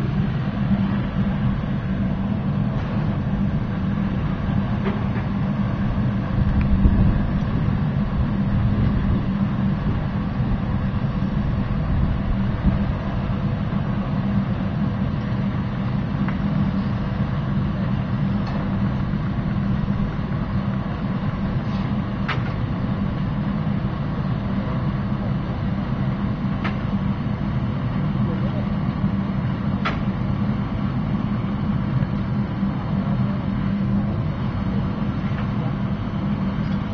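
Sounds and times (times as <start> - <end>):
furnace blower drone: 0.0 - 36.9.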